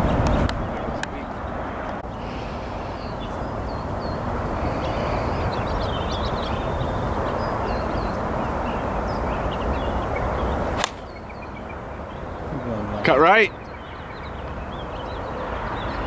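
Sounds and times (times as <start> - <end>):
birds chirping: 0.0 - 16.0
steady rushing noise: 0.0 - 16.0.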